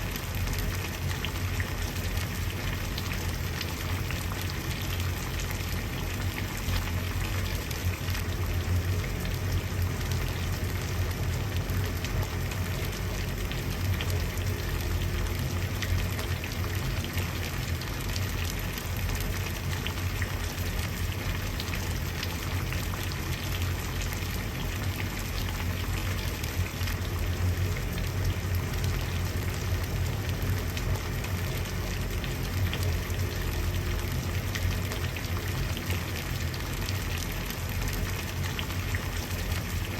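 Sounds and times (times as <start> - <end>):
low steady rumble: 0.0 - 39.9
water boiling and bubbling: 0.0 - 39.9.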